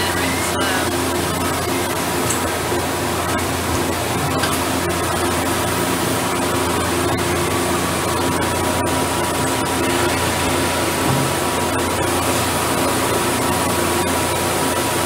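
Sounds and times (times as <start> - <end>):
lathe humming and hissing: 0.0 - 15.0.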